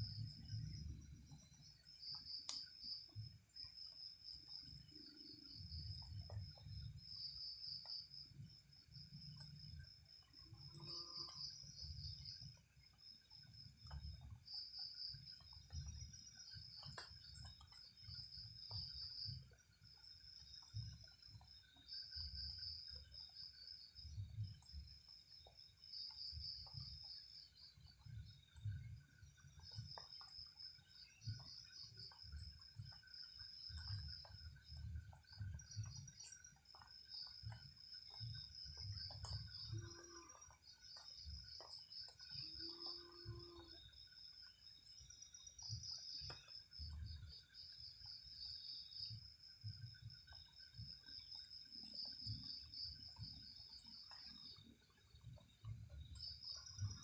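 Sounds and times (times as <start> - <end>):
crickets chirring: 0.0 - 57.0
insects trilling: 0.0 - 57.0
soft ticks: 0.1 - 12.7, 13.4 - 43.9, 45.5 - 57.0.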